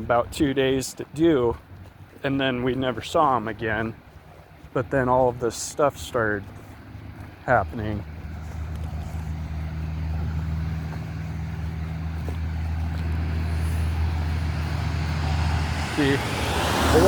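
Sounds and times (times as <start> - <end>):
vehicle engine running: 1.5 - 17.0.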